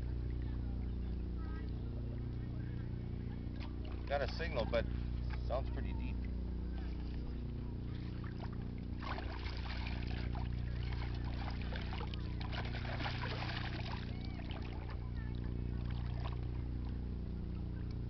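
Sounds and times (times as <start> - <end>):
steady low hum: 0.0 - 18.0
water sloshing and splashing: 0.1 - 18.0.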